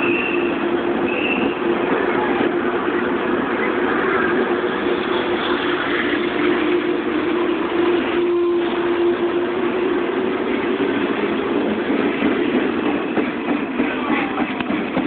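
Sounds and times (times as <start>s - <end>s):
electric train rolling past: 0.0s - 15.0s.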